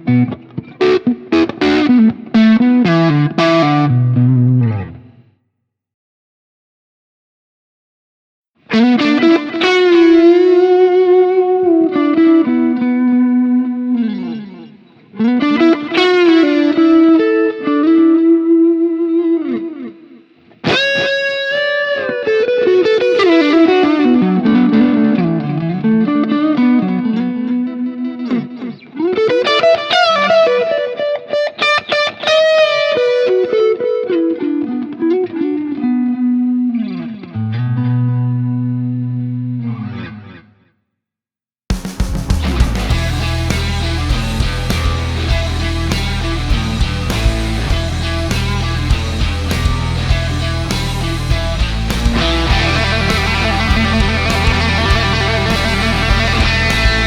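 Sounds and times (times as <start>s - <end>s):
overdriven electric guitar: 0.0s - 5.2s, 8.6s - 40.6s, 41.7s - 57.0s.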